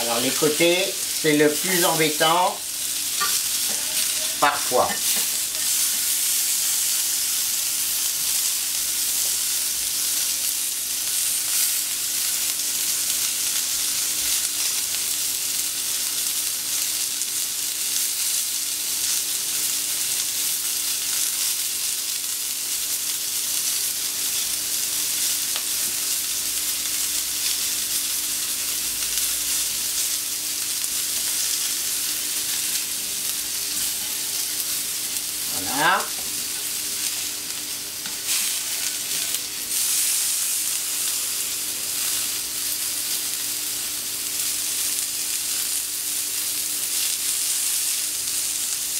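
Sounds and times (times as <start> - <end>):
fish sizzling on a hot plate: 0.0 - 48.9.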